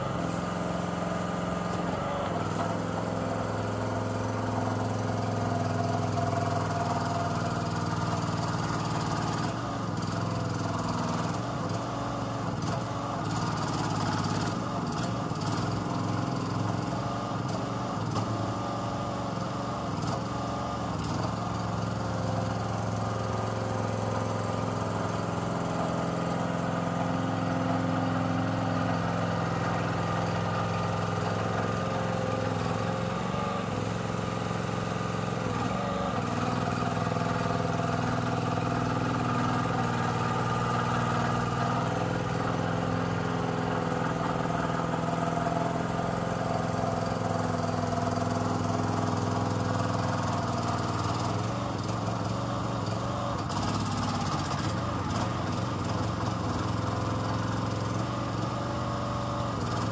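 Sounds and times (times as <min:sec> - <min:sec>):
mini dumper engine running: 0:00.0 - 0:59.9.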